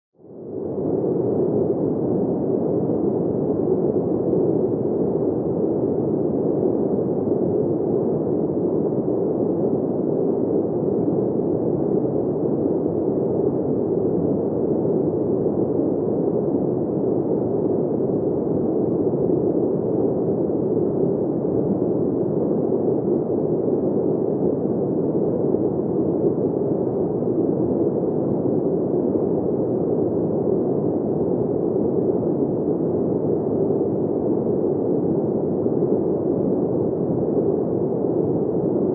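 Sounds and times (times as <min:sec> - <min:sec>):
steady wind: 0:00.2 - 0:38.9.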